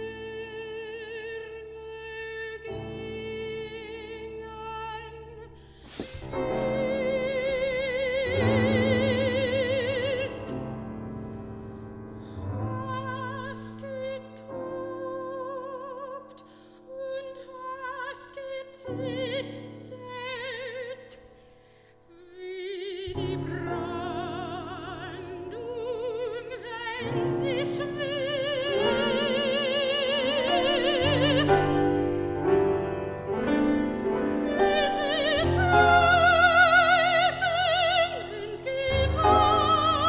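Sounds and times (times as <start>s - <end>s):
operatic soprano singing: 0.0s - 11.1s, 12.5s - 21.5s, 22.1s - 40.0s
piano chords: 0.0s - 40.0s.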